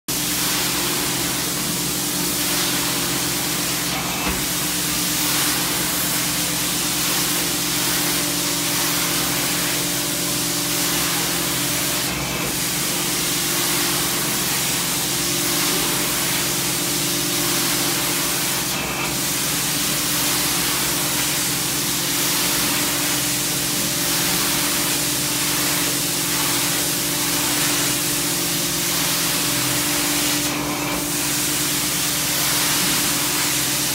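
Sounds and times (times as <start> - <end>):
rushing vacuum air: 0.1 - 33.9.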